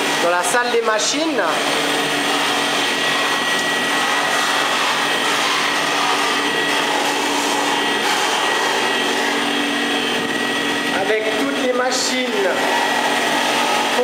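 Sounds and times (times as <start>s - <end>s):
dust extraction hose: 0.0s - 14.0s
grinding machine rushing noise: 0.0s - 14.0s.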